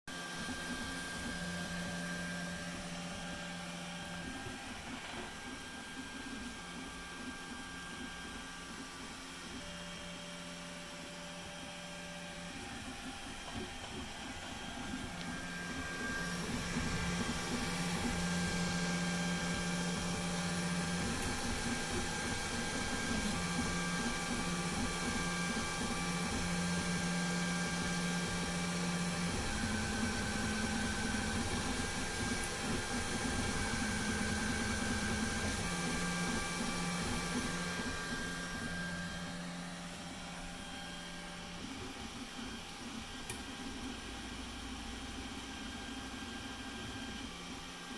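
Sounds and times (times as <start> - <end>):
steady whir: 0.1 - 47.9
stepper motors humming: 0.2 - 47.8.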